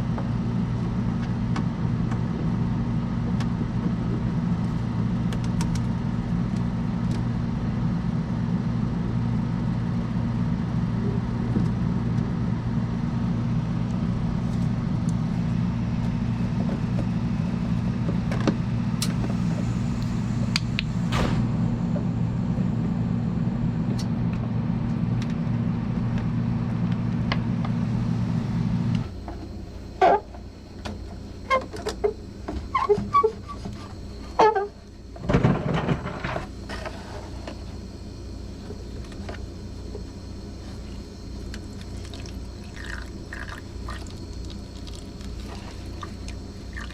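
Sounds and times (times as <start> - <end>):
refrigeration unit humming: 0.0 - 46.9.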